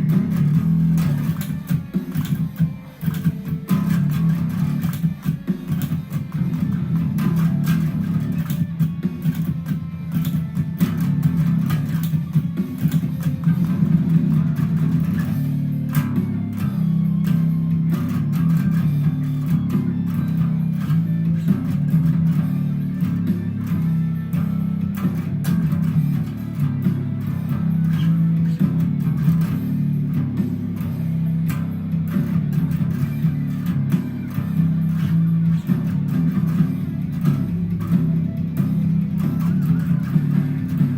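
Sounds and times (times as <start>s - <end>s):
bass guitar playing: 0.0s - 40.9s.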